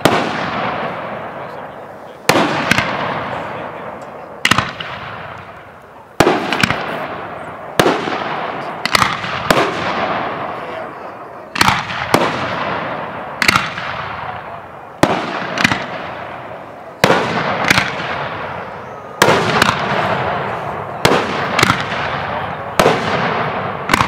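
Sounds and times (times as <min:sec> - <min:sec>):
fireworks bangs: 0:00.0 - 0:24.0
fireworks crackle: 0:00.0 - 0:24.0
rumble after fireworks: 0:00.0 - 0:24.0.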